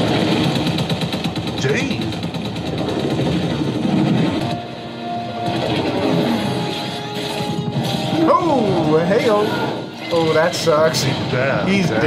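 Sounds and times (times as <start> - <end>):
dramatic orchestral score: 0.0 - 12.0.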